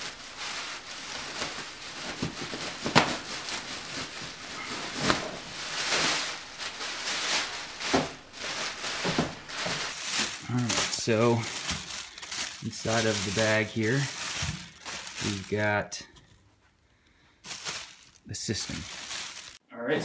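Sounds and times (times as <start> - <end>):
plastic bag rustling and crinkling: 0.0 - 16.1, 17.1 - 19.6.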